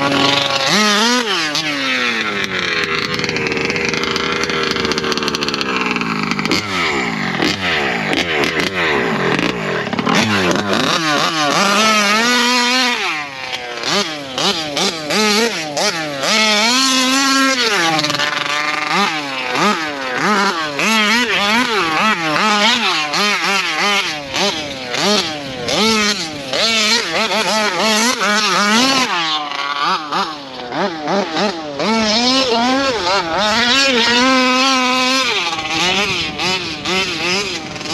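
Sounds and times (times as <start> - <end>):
two-stroke engine revving: 0.0 - 37.9.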